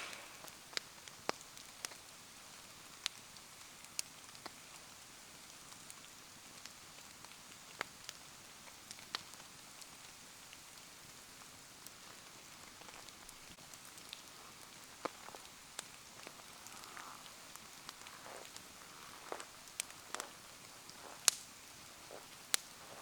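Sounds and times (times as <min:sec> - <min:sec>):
bonfire ticks and pops: 0:00.0 - 0:23.0
rain falling: 0:00.0 - 0:23.0.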